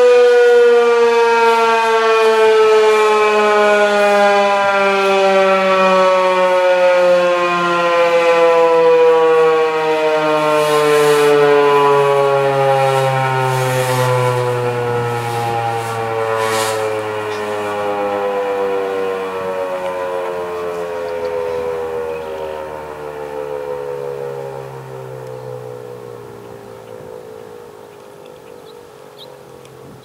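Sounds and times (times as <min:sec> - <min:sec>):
warning siren winding down: 0:00.0 - 0:30.0.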